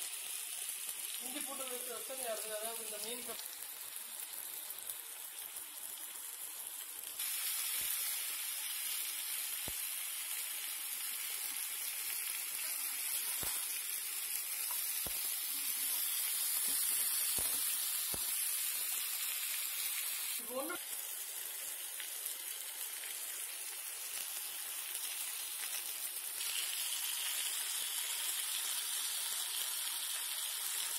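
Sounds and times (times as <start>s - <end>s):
fish sizzling in oil: 0.0s - 30.9s.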